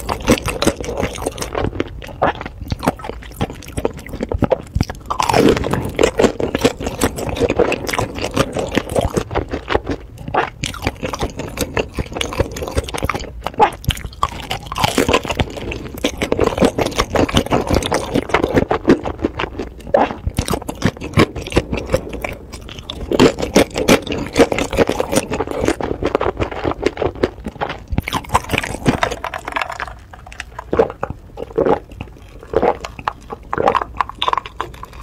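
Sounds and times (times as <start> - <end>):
person chewing with mouth smacks: 0.0 - 35.0.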